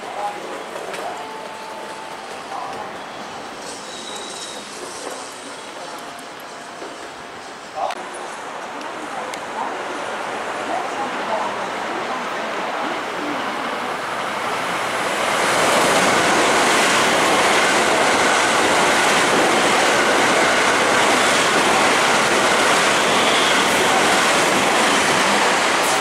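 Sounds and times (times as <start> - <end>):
electric train passing at speed: 0.0 - 26.0.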